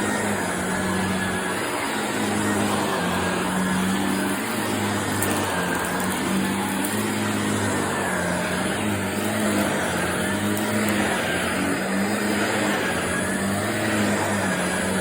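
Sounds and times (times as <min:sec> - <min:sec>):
vacuum cleaner running over carpet: 0:00.0 - 0:15.0.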